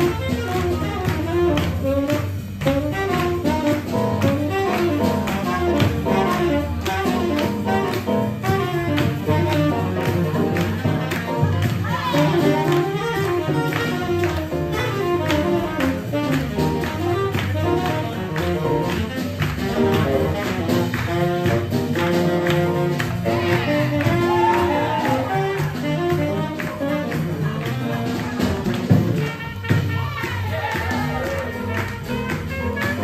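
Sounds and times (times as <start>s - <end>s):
swing jazz with piano: 0.0s - 33.0s.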